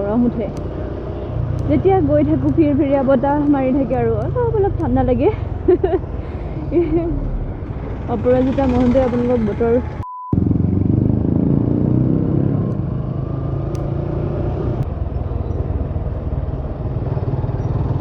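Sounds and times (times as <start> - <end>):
motorcycle engine running: 0.0 - 6.2, 6.9 - 18.0
wind and road noise: 0.0 - 18.0.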